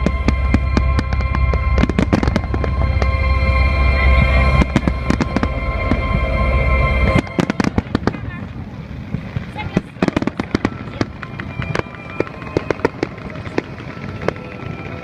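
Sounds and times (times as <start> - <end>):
fireworks bangs and crackles: 0.0 - 6.3, 7.0 - 15.0.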